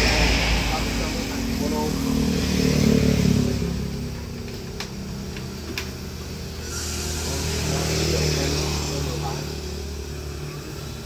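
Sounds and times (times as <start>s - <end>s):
traffic noise: 0.0s - 11.0s
vehicle engine passing: 0.0s - 11.0s.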